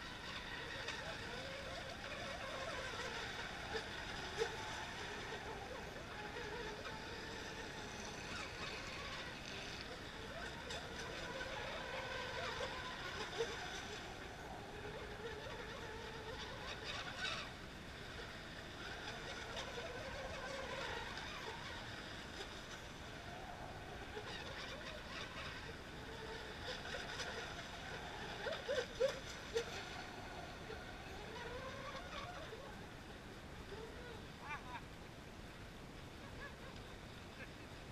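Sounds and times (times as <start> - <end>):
model boat engines whining: 0.0 - 37.9.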